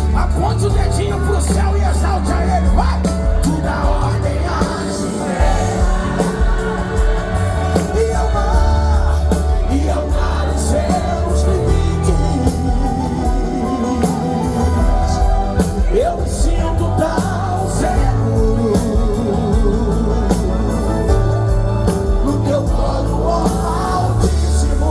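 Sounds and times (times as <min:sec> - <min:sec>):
drums: 0:00.0 - 0:24.9
gospel band with singing: 0:00.0 - 0:24.9
heavy bass line: 0:00.0 - 0:24.9.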